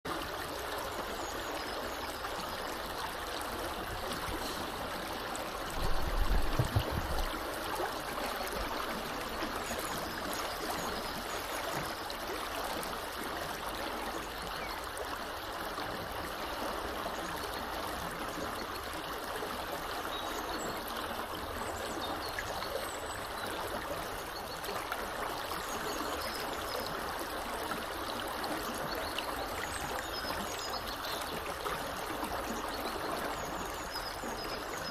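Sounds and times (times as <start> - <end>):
river flowing water: 0.1 - 34.9.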